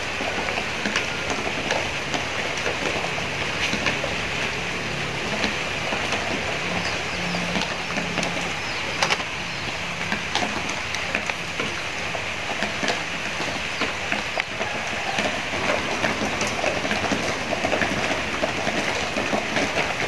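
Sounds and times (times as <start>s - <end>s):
water bubbling in a wok: 0.0s - 20.0s.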